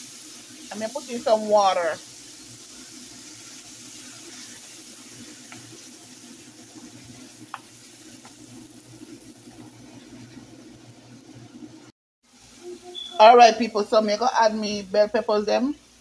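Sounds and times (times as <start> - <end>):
water sizzling in hot skillet: 0.0 - 16.0.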